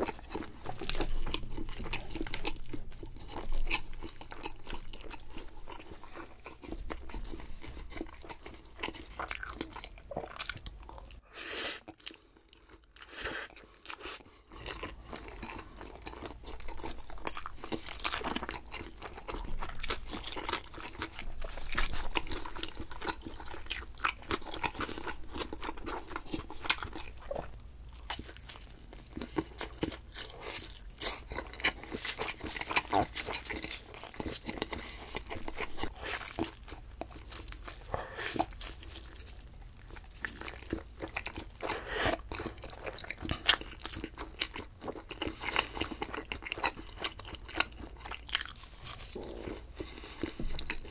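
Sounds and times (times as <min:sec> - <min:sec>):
crunchy chewing: 0:00.0 - 0:11.2, 0:11.9 - 0:50.9.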